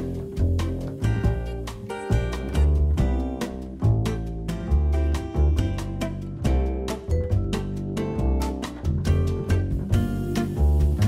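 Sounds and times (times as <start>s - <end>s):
bass line: 0.0s - 11.0s
strummed guitar: 0.0s - 11.0s.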